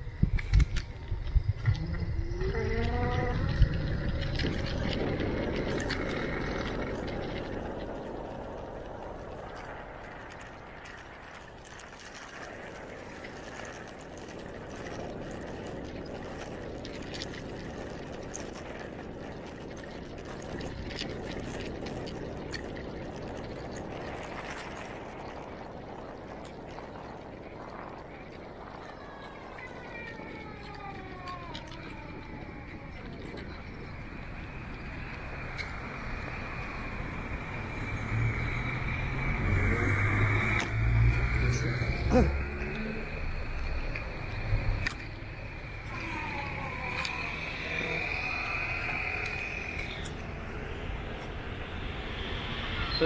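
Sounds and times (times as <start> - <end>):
minivan engine hum: 0.0 - 25.8, 27.1 - 53.0
street background noise: 0.0 - 53.0
tyre noise: 0.0 - 53.0
vehicle moving slowly: 0.0 - 53.0
wind on microphone: 0.0 - 53.0.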